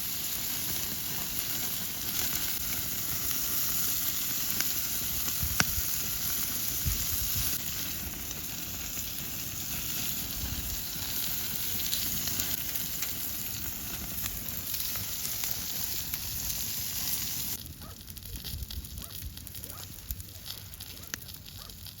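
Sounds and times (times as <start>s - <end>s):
meat sizzling on griddle: 0.0s - 17.9s
fire crackling and popping: 0.0s - 22.0s.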